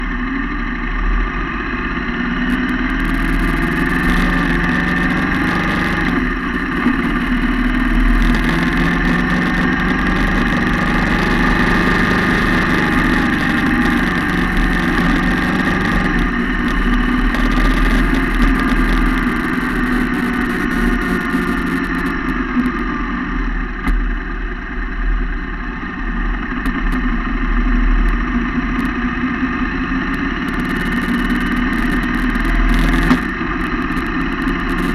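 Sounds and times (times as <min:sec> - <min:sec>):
motorcycle engine running loud: 0:00.0 - 0:34.9.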